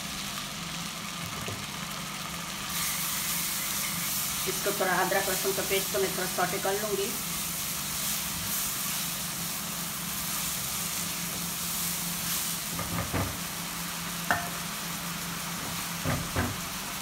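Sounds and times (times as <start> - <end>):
frying sizzle in a pan: 0.0 - 17.0.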